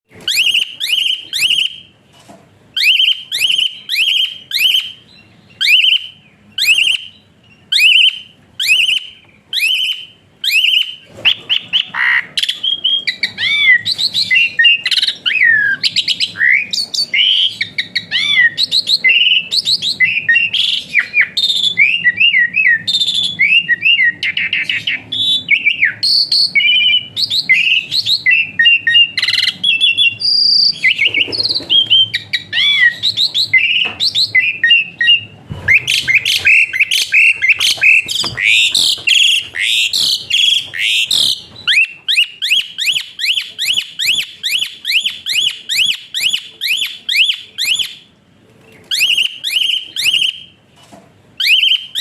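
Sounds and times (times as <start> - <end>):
starling singing in whistles: 0.1 - 2.0, 2.7 - 48.1, 48.9 - 50.6, 51.4 - 52.0.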